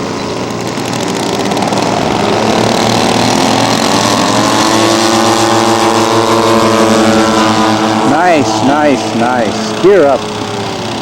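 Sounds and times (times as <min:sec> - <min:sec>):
model airplane engines throttling up: 0:00.0 - 0:11.0.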